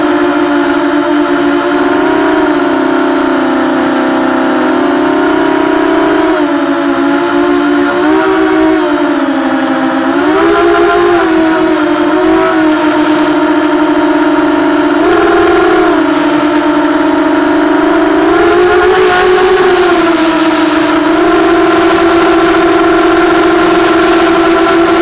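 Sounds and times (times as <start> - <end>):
drone motors buzzing whine: 0.0 - 25.0.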